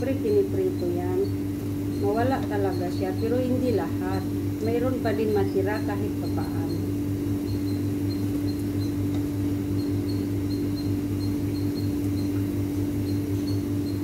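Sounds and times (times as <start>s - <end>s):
dough deep-frying in oil: 0.0s - 14.0s
mechanical hum: 0.0s - 14.0s.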